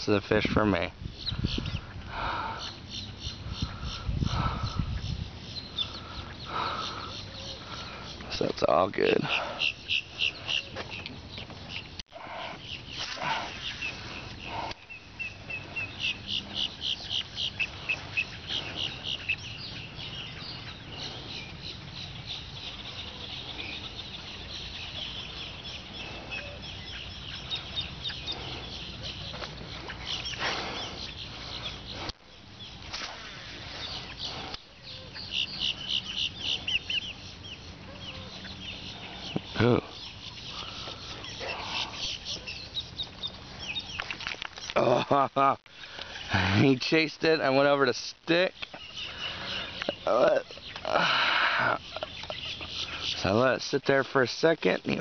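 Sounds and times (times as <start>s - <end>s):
birds clucking: 0.1s - 55.0s.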